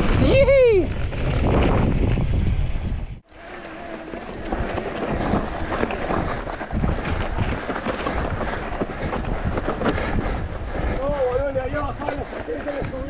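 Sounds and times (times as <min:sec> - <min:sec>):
wind buffeting microphone: 0:00.0 - 0:03.3, 0:04.0 - 0:13.0
mountain bike rattling on trail: 0:00.0 - 0:13.0.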